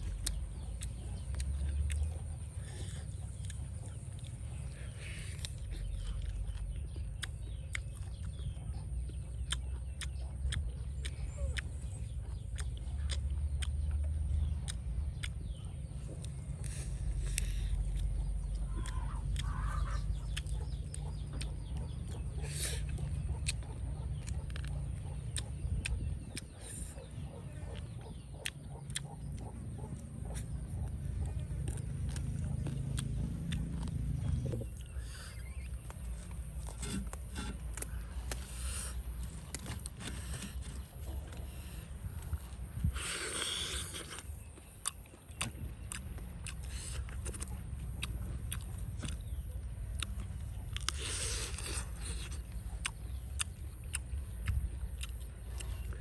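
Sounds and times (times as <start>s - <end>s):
chickens clucking: 0.0s - 55.7s
person chewing crispy food: 0.0s - 56.0s
steady low rumble: 0.0s - 56.0s.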